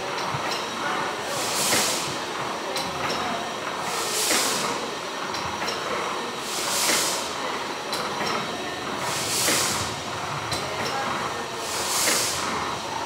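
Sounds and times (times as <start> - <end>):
steam exhaust hissing: 0.7 - 2.8, 3.4 - 5.2, 5.9 - 13.0.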